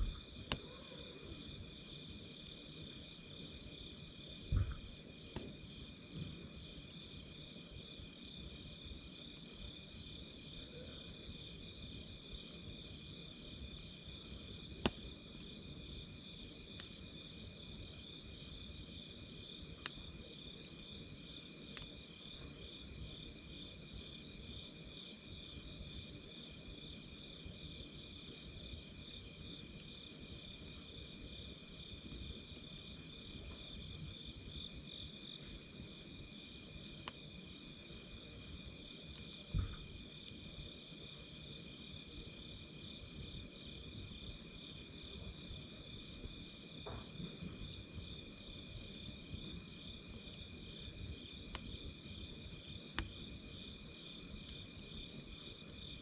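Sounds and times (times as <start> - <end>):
campfire crackling and popping: 0.0 - 0.7, 1.4 - 10.6, 11.4 - 24.9, 26.0 - 56.0
crickets chirping: 0.0 - 56.0.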